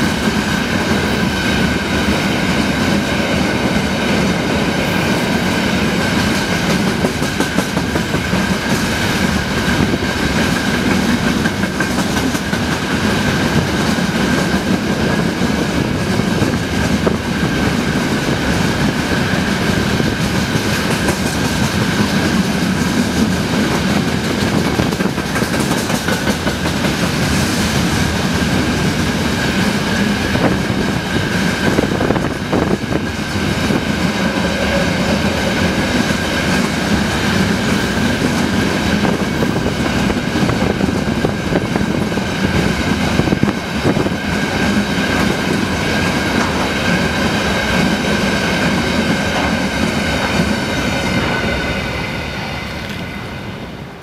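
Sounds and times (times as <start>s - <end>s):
train wheels clattering over rails: 0.0s - 53.2s.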